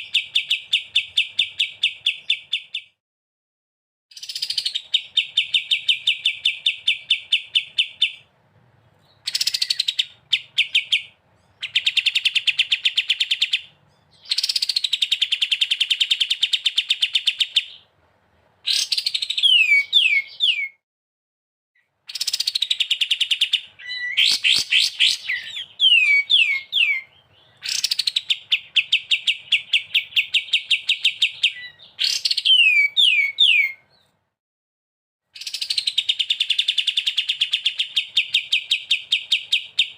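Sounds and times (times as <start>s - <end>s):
songbird singing trills: 0.0s - 3.0s, 4.1s - 8.3s, 9.0s - 17.9s, 18.6s - 20.8s, 22.1s - 34.1s, 35.4s - 39.9s.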